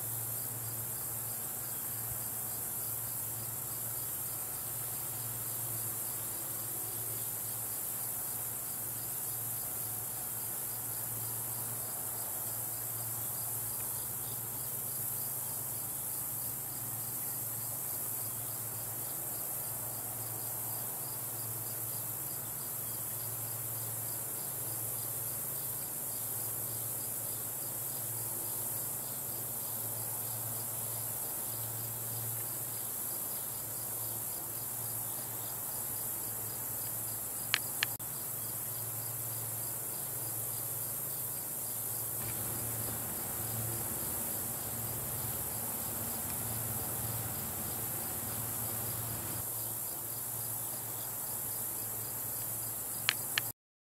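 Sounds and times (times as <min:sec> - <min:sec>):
crickets and insects singing: 0:00.0 - 0:53.5.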